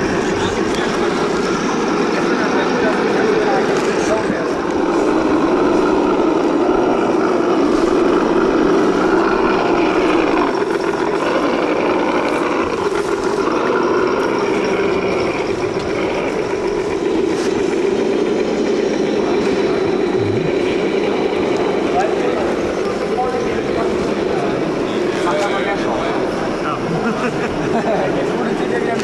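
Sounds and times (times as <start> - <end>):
rc car electric motor whining: 0.0 - 27.1.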